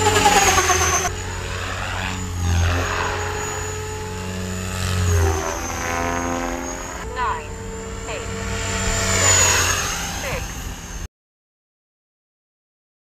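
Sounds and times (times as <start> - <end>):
helicopter rotor blades: 0.0 - 11.1
rc helicopter motor whine: 0.0 - 11.1.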